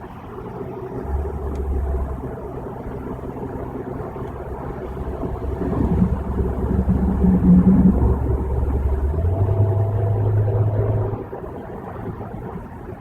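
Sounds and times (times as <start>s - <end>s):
low drone: 0.0s - 12.4s
car road and engine noise: 0.0s - 13.0s.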